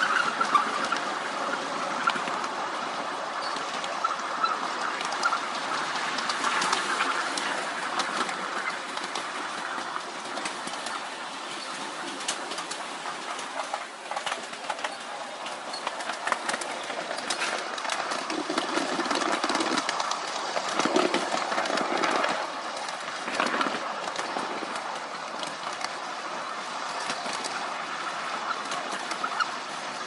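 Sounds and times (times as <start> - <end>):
miniature train wheels clicking: 0.0 - 30.0
train rolling rumble: 0.0 - 30.0.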